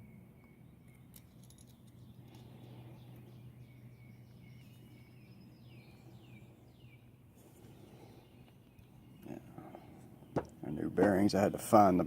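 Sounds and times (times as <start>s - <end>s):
bird chirps: 0.0s - 11.0s
steady low hum: 0.0s - 12.0s.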